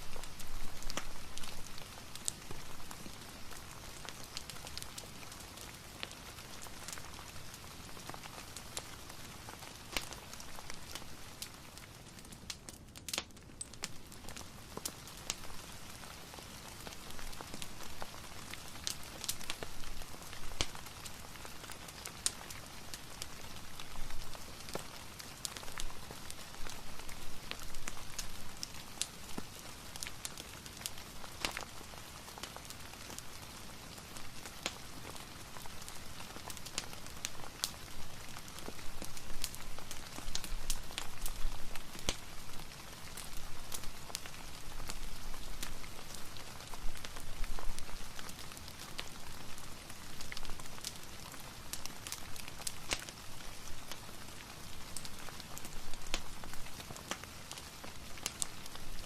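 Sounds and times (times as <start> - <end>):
fireplace crackling: 0.0 - 59.0
soft rain hiss: 0.0 - 59.0.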